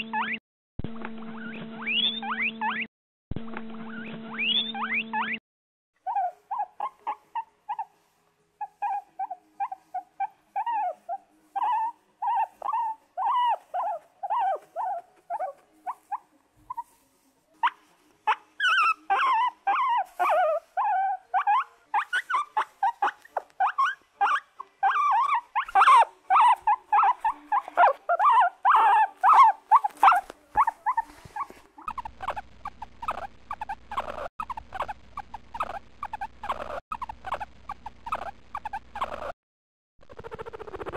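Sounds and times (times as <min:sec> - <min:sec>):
guinea pig squeaking: 0:00.0 - 0:00.4, 0:01.4 - 0:02.9, 0:03.9 - 0:05.4, 0:06.0 - 0:08.0, 0:08.6 - 0:17.0, 0:17.6 - 0:39.4, 0:40.0 - 0:40.9.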